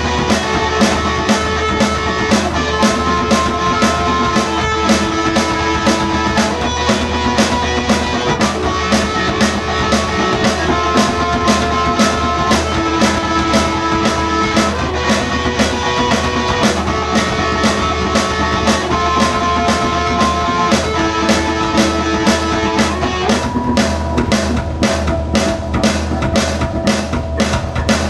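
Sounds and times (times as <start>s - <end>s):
bass guitar: 0.0s - 28.0s
drum kit steady beat: 0.0s - 28.0s
electric guitar: 0.0s - 28.0s.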